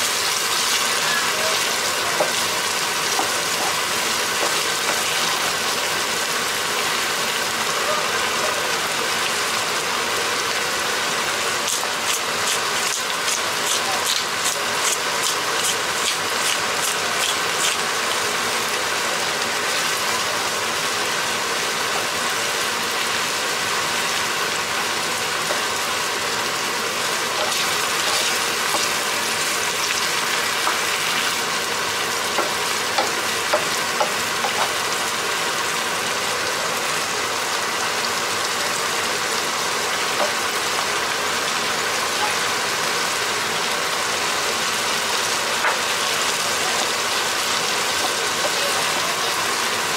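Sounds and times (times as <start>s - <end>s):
meat sizzling in a frying pan: 0.0s - 49.9s.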